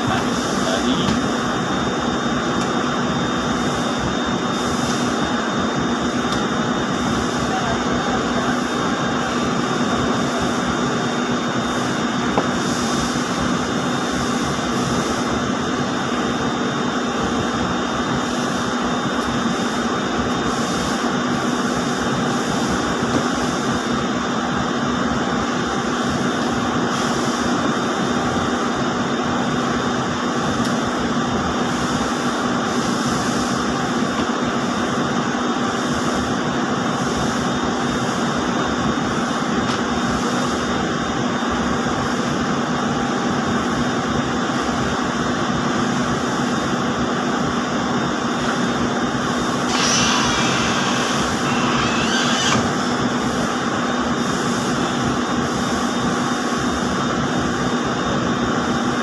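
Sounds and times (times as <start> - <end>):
constant hum: 0.0 - 59.0
spinning machinery drone: 0.0 - 59.0.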